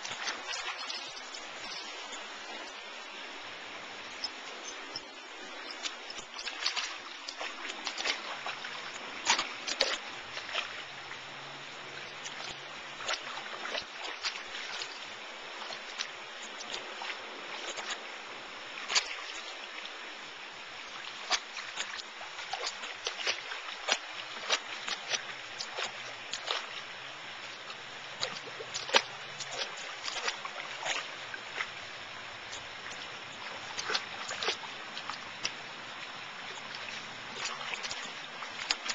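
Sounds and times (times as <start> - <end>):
running pond water: 0.0 - 38.9.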